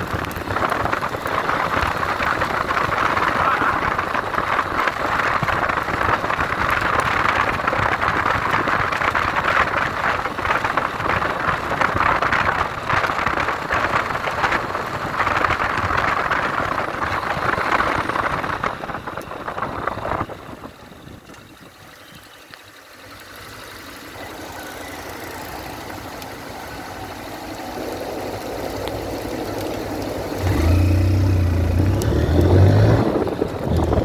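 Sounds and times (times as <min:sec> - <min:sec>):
motorcycle engine: 0:00.0 - 0:34.0
wind and rain on microphone: 0:00.0 - 0:34.0.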